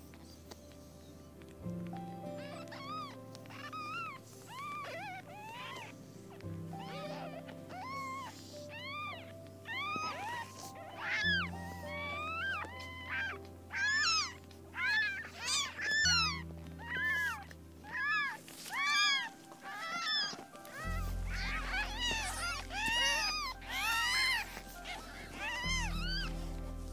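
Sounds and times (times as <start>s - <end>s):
soft background music: 0.0s - 26.9s
kittens mewing: 2.2s - 26.9s.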